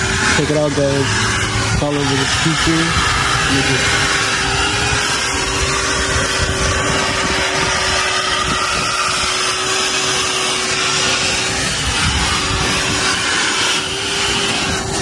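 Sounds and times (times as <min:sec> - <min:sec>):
motor running with hum: 0:00.0 - 0:15.0.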